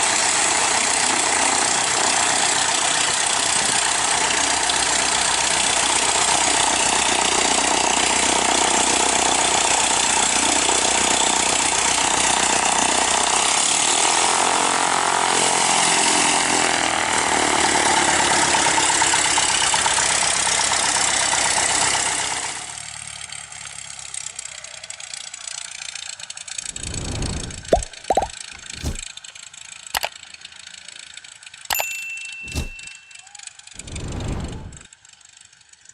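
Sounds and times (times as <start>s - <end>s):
light aircraft engine and propeller: 0.0s - 27.7s, 33.8s - 35.9s.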